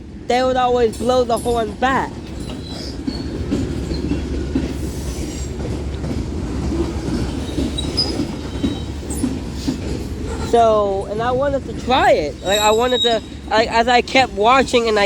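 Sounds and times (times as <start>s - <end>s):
freight train wheels rumbling: 0.0s - 15.0s
high wheel squeal: 1.0s - 5.6s, 6.8s - 11.2s, 11.9s - 15.0s.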